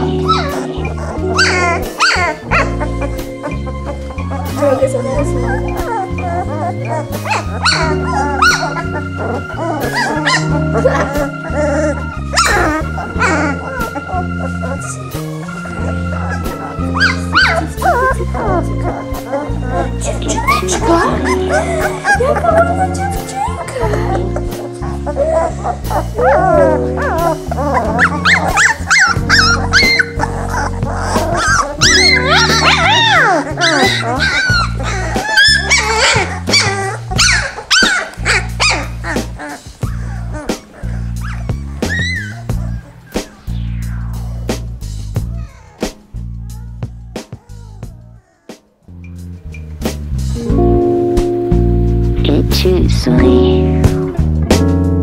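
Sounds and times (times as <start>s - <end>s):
puppies squeaking and yipping: 0.0s - 50.2s
background music with held notes: 0.0s - 55.0s.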